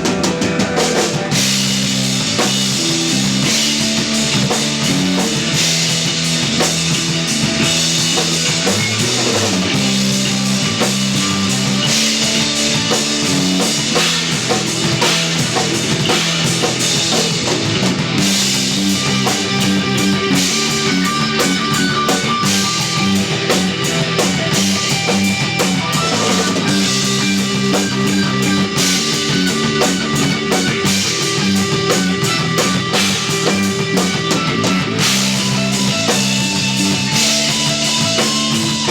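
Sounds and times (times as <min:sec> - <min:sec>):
busy drumming: 0:00.0 - 0:38.9
electric bass line: 0:00.0 - 0:38.9
electric guitar: 0:00.0 - 0:38.9.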